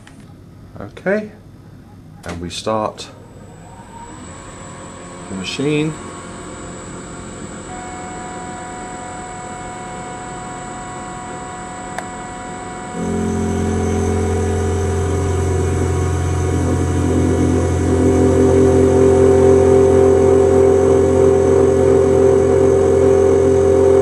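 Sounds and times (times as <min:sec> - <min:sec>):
deeper louder hum: 0:02.9 - 0:24.0
milling machine motor whining: 0:03.2 - 0:24.0.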